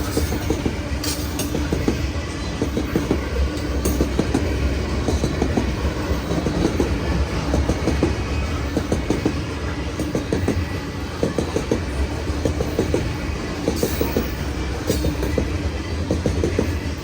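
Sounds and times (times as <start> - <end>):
train cars rumbling past: 0.0 - 17.0
wheels clacking over rail joints: 0.0 - 17.0.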